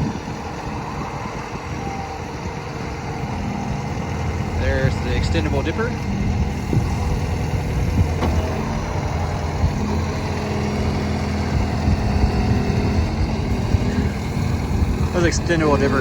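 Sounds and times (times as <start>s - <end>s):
diesel engine running: 0.0s - 16.0s
hydraulics working: 0.0s - 16.0s.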